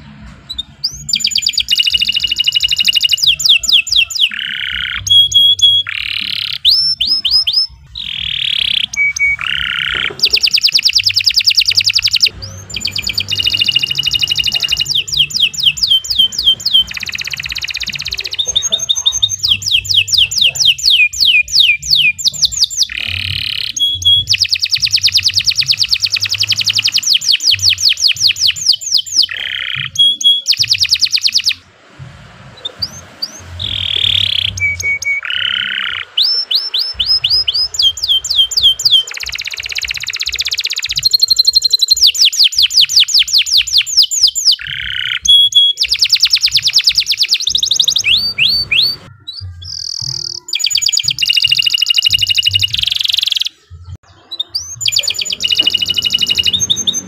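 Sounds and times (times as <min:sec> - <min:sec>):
canary singing: 0:00.0 - 0:31.7, 0:32.4 - 0:57.0.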